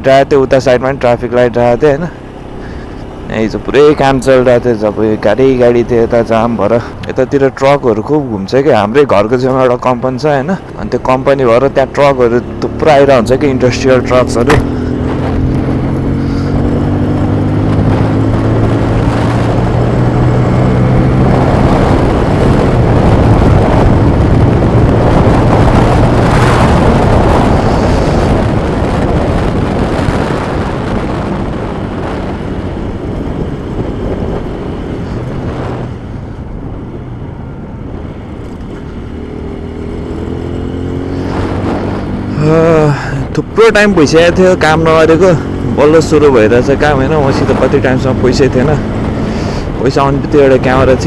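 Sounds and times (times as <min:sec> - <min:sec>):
wind rushing on microphone: 0:00.0 - 0:51.0
motorcycle engine accelerating: 0:00.6 - 0:07.6, 0:09.5 - 0:51.0.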